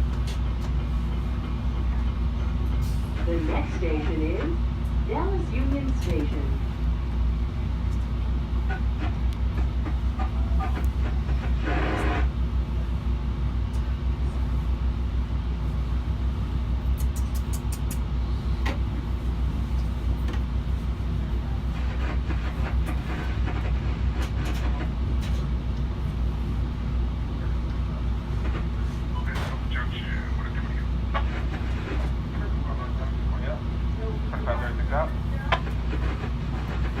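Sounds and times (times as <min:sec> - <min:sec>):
train rumble and hum: 0:00.0 - 0:37.0.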